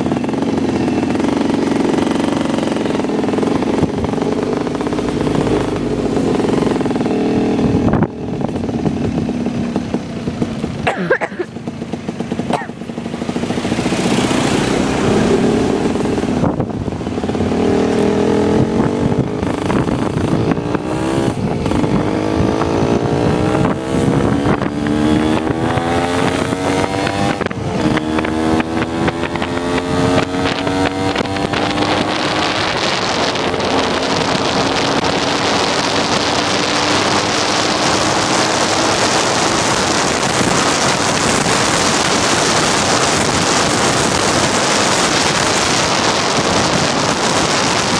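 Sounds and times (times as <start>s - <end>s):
wind rushing over microphone: 0.0s - 10.9s, 11.8s - 47.9s
motorcycle engine accelerating: 0.0s - 47.9s.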